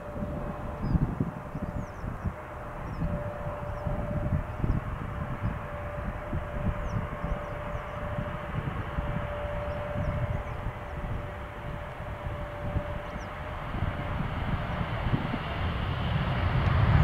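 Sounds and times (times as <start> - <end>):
distant jet engine hum: 0.0 - 17.0
wind buffeting microphone: 0.0 - 17.0.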